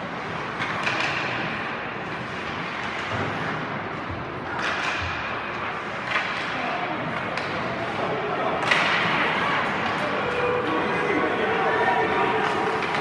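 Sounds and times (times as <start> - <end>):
arena noise: 0.0 - 13.0
skates scraping ice: 0.0 - 13.0.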